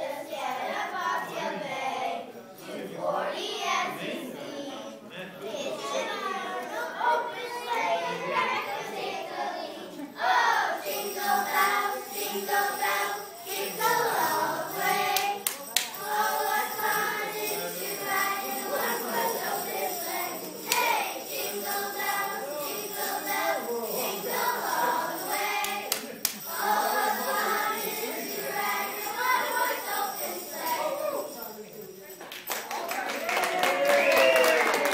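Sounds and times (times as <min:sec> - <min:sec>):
girls singing a carol: 0:00.0 - 0:31.4.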